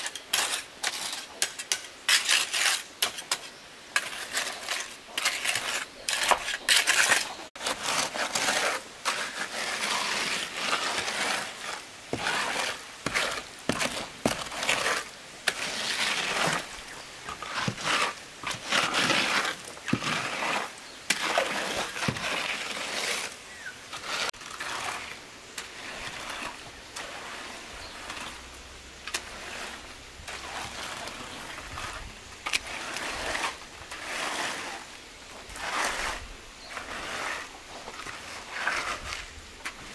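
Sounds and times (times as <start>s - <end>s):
trowel scraping wet concrete: 0.0s - 39.9s.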